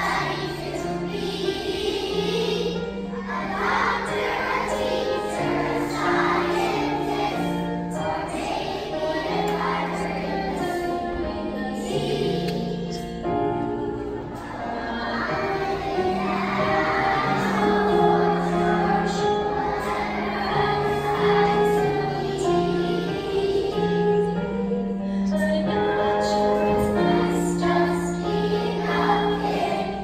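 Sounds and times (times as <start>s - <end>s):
children's choir singing: 0.0s - 30.0s
musical accompaniment: 0.0s - 30.0s.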